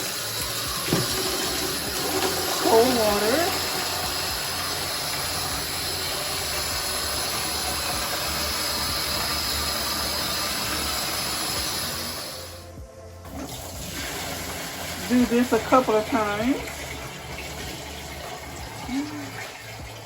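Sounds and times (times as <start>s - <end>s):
water running into a bucket: 0.0s - 20.0s.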